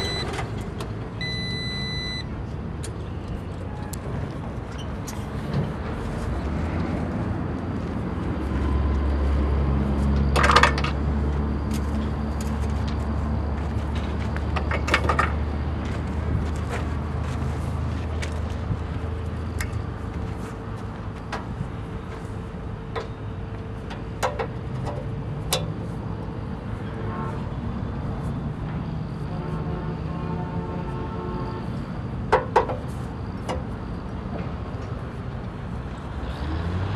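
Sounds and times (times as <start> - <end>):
engine humming: 0.0 - 36.9.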